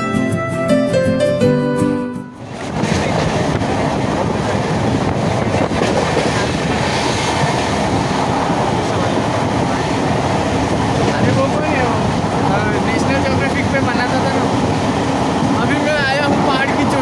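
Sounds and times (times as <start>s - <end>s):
train wheels rumbling: 2.4s - 17.0s
wind buffeting microphone: 2.4s - 17.0s.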